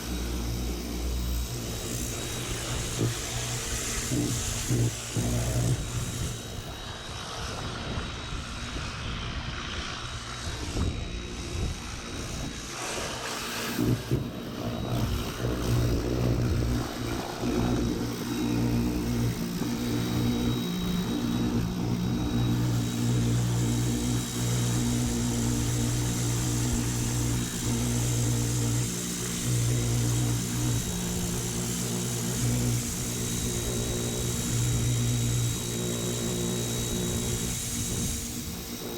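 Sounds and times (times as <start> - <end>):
pressure washer droning: 0.0 - 6.7, 12.6 - 38.9.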